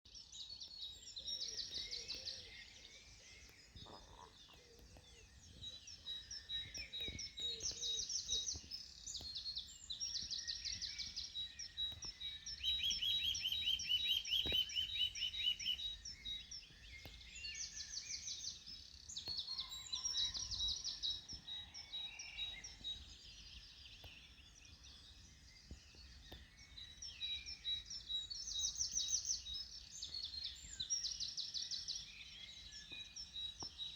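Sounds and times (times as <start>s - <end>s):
songbirds singing: 0.1s - 33.9s.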